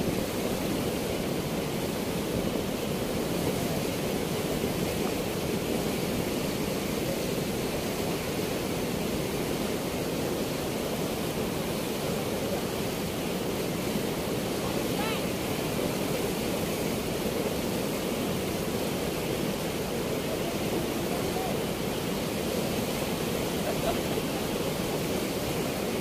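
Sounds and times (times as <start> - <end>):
river water pouring through weir: 0.0 - 26.0.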